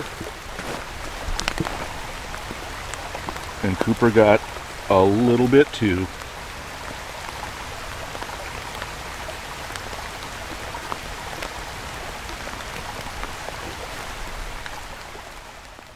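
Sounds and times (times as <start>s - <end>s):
rain falling: 0.0s - 15.9s
raindrops ticking: 0.0s - 15.9s.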